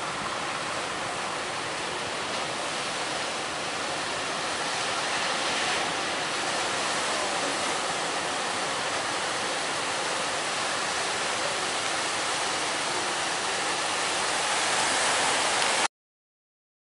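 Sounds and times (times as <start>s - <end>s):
heavy surf breaking: 0.0s - 15.9s.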